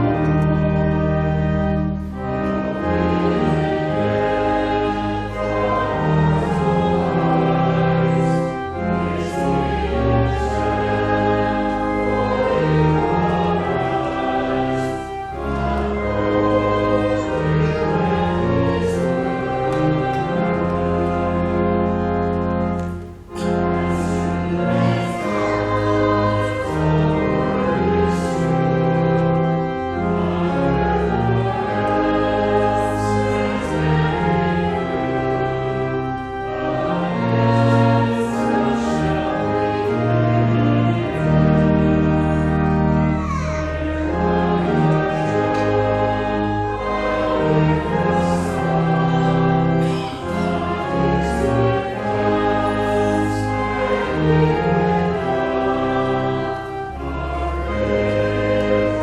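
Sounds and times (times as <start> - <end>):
congregation singing a hymn: 0.0 - 59.0
organ chords: 0.0 - 59.0
sustained instrumental accompaniment: 0.0 - 59.0.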